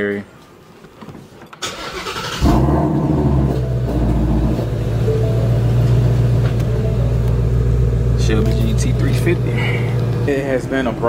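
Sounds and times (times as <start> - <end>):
car engine idling: 2.0 - 11.0.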